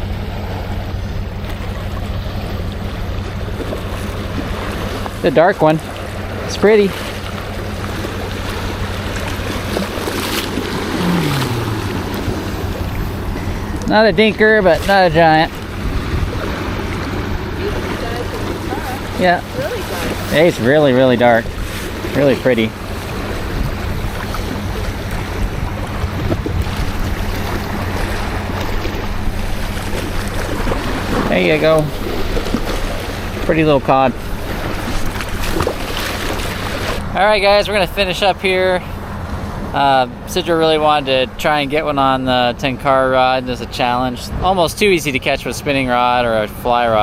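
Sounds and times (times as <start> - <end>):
boat engine droning: 0.0 - 47.0
waves at the shore: 0.0 - 47.0
wind: 0.0 - 47.0.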